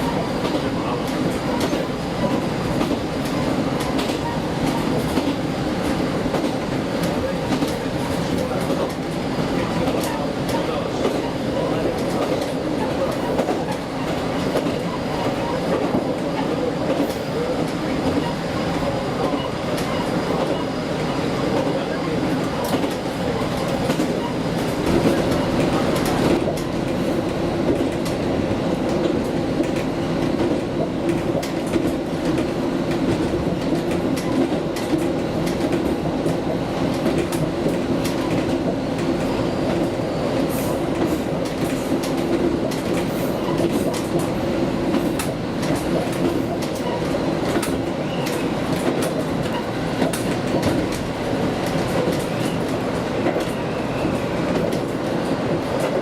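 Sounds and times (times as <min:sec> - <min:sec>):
railcar engine drone: 0:00.0 - 0:56.0.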